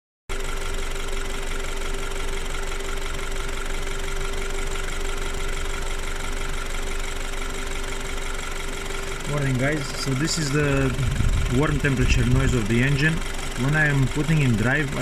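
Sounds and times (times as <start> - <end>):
car engine idling: 0.3 - 15.0.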